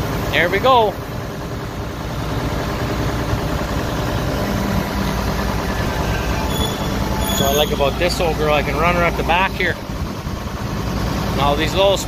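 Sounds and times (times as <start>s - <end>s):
tractor diesel engine running: 0.0s - 12.0s
low steady hum: 1.4s - 11.6s.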